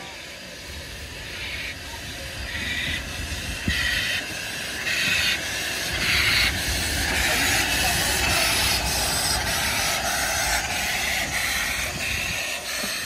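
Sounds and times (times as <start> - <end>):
steam locomotive exhaust beats: 0.0 - 13.0.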